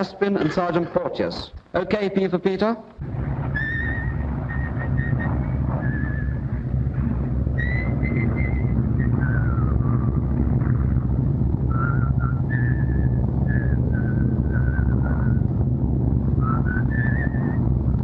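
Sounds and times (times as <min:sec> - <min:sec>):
steady low rumble: 0:02.9 - 0:18.0.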